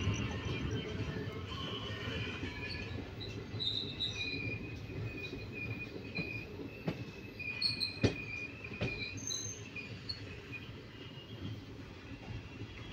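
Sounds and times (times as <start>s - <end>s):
wheels squealing: 0.0s - 11.4s
train rolling rumble: 0.0s - 12.9s.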